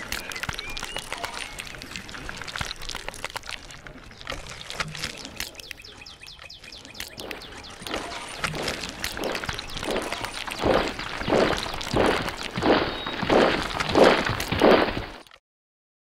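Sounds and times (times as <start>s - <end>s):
rapid clicking and ticking: 0.0s - 15.3s.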